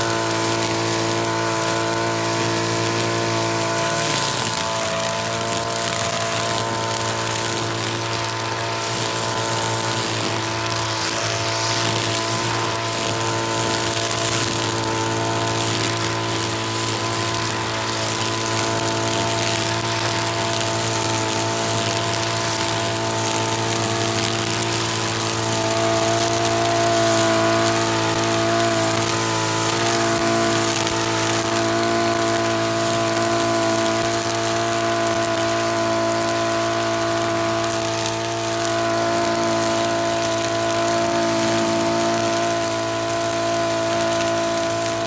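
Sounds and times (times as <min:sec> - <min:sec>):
brush cutter cutting grass: 0:00.0 - 0:45.0.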